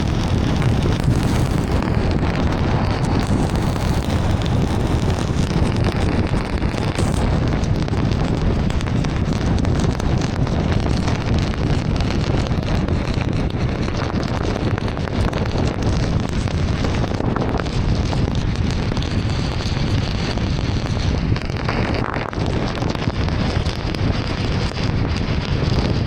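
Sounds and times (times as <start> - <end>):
heavy rain crackle: 0.0 - 26.0.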